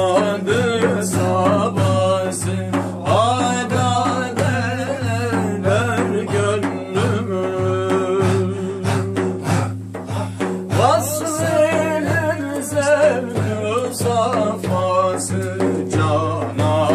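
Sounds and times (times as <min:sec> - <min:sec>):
men singing together: 0:00.0 - 0:16.9
steady percussive beat: 0:00.0 - 0:16.9.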